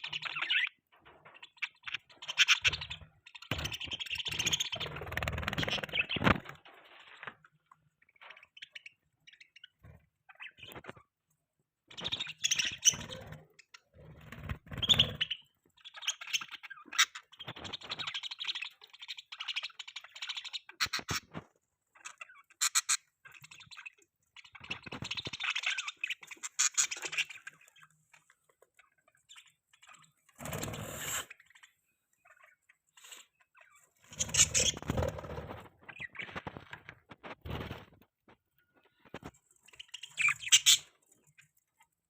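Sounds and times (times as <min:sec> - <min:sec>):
budgies chattering and chirping: 0:00.0 - 0:38.0, 0:38.8 - 0:42.0.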